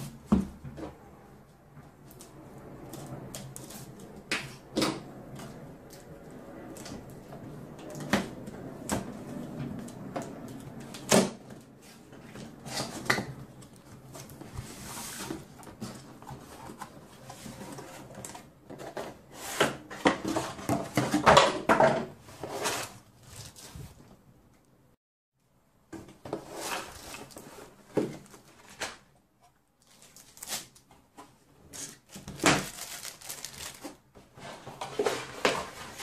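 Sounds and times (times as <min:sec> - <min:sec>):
cardboard flaps scraping and rustling: 0:01.9 - 0:24.2, 0:26.0 - 0:29.2, 0:29.8 - 0:36.0.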